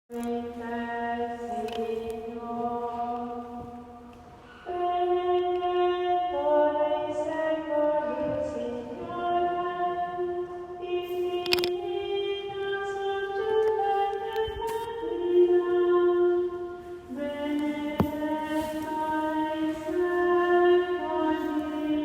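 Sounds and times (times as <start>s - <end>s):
slow chant-like singing: 0.1s - 22.0s.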